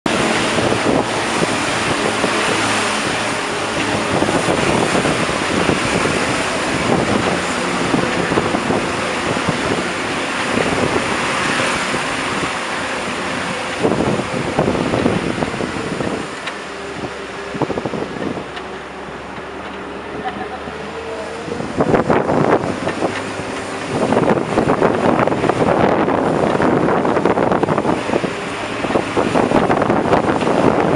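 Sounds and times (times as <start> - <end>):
bus engine and road noise: 0.0 - 30.9
wind buffeting microphone: 0.1 - 30.9.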